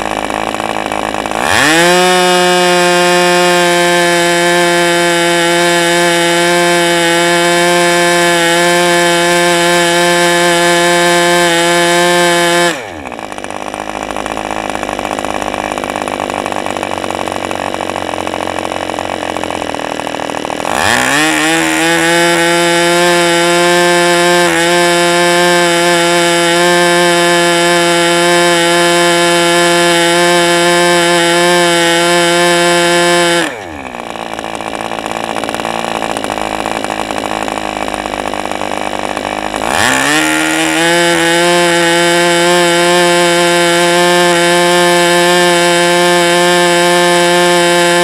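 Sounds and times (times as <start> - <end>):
model engine high-pitched buzz: 0.0 - 48.0.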